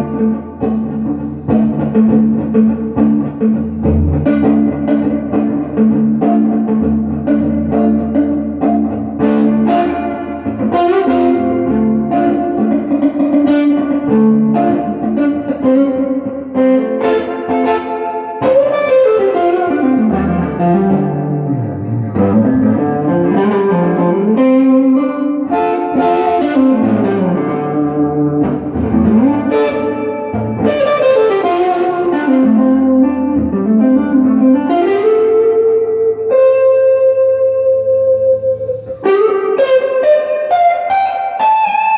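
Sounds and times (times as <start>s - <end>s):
electric guitar with reverb: 0.0s - 41.9s.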